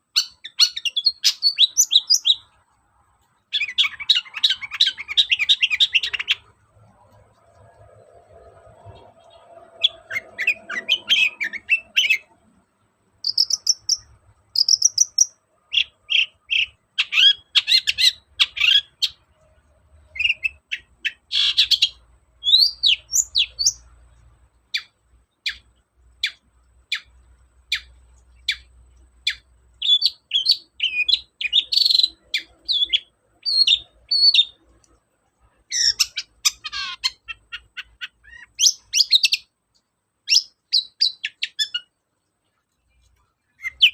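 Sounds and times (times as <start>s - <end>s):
bird singing chattering song: 0.0s - 2.7s, 3.4s - 7.7s, 8.3s - 12.5s, 13.2s - 19.4s, 20.0s - 34.8s, 35.6s - 42.0s, 43.0s - 43.9s.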